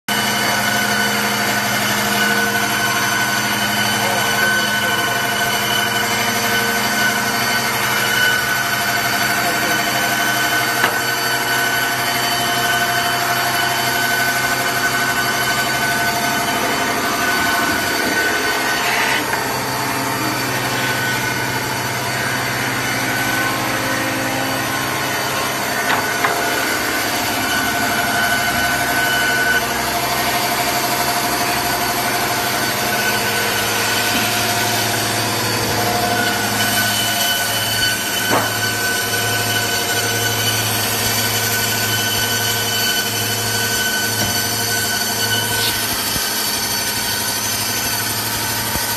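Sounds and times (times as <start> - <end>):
band saw running and sawing: 0.1 - 48.9.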